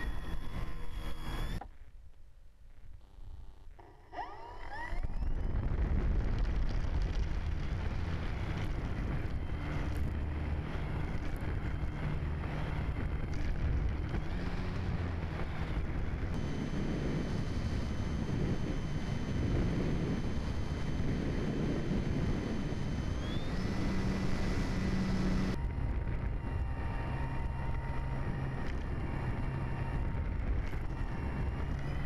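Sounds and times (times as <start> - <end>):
electric motor whine: 0.0 - 1.8, 3.0 - 32.0
propeller wash and wind buffeting: 3.8 - 32.0.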